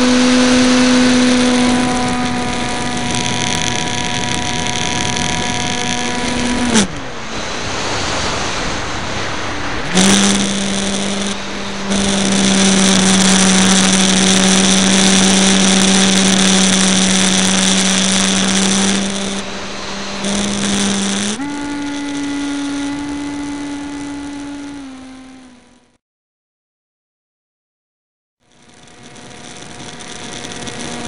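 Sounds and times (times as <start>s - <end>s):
electric motor and propeller whine: 0.0s - 26.0s, 28.4s - 31.0s.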